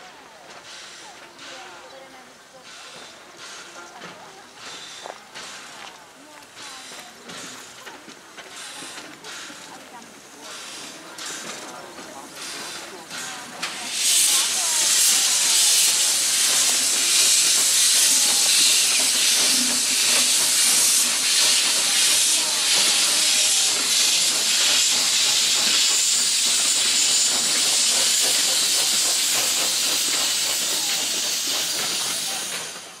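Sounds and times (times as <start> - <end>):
train coaches rolling: 0.0 - 33.0
steam hissing: 0.5 - 33.0.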